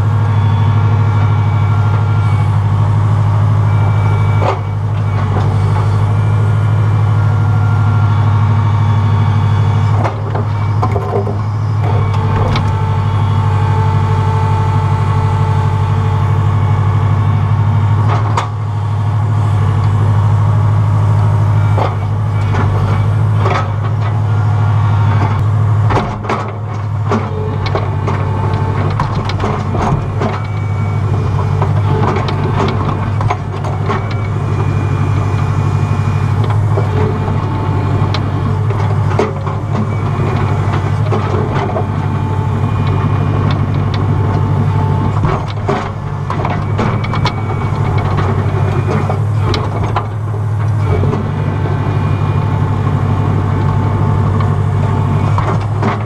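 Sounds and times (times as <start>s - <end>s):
excavator engine running: 0.0s - 56.0s
hydraulic whine: 0.0s - 56.0s.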